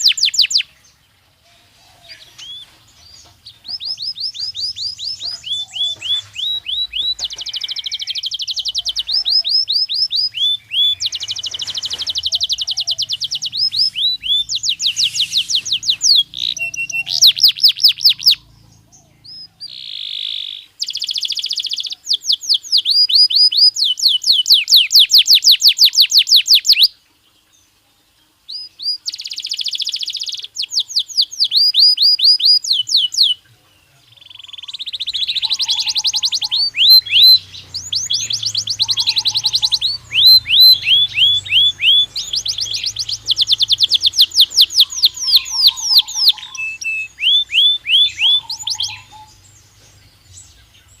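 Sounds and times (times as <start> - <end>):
canary trilling: 0.0 - 27.0, 28.5 - 33.4, 34.1 - 49.8.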